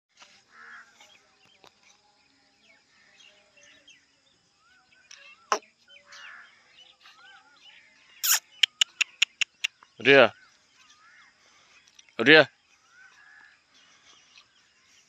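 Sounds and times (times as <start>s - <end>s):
birds chirping: 0.5s - 15.0s.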